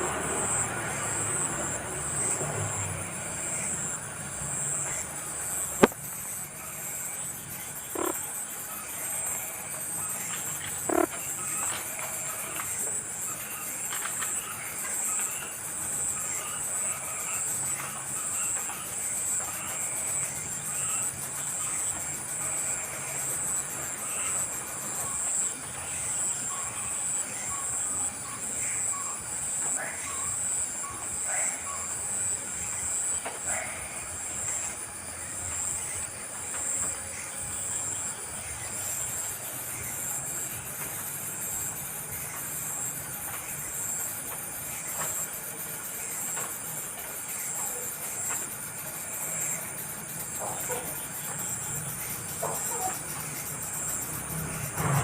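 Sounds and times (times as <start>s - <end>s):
low croak-like calls: 0.0s - 12.9s, 16.2s - 42.4s, 46.2s - 55.0s
insects trilling: 0.0s - 55.0s.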